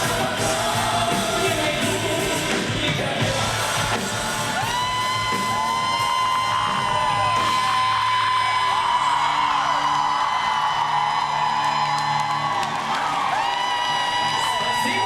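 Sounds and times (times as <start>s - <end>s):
live band playing pop music: 0.0s - 10.5s, 12.0s - 15.0s.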